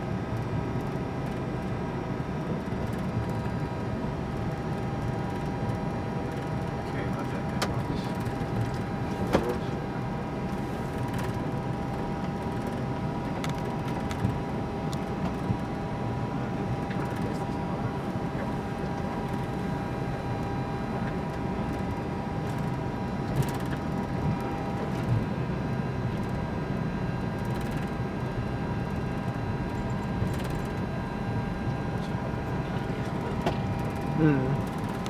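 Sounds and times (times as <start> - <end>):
engine and air systems drone: 0.0 - 35.0
thin steady whine: 0.0 - 35.0.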